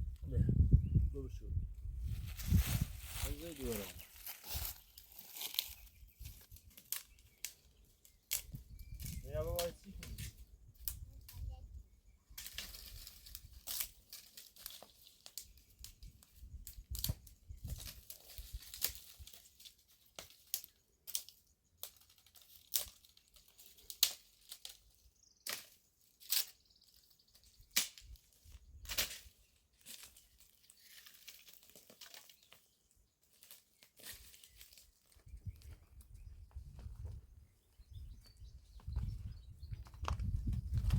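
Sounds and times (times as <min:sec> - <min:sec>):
dry material crackling and rustling: 0:02.1 - 0:10.3, 0:12.3 - 0:37.0.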